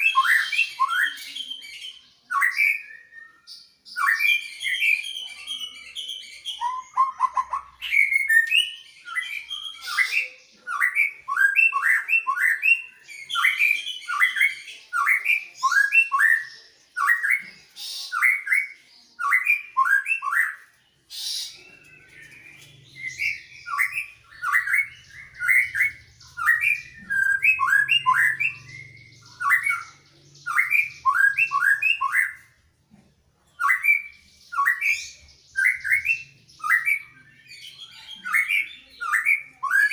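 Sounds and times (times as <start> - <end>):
birds singing sharp chirps: 0.0 - 39.9.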